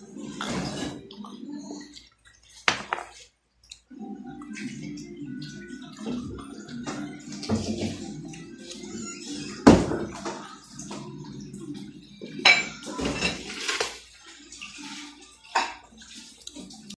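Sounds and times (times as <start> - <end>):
water running: 0.0 - 17.0
dishes and cutlery clattering: 0.1 - 3.3, 5.8 - 16.9.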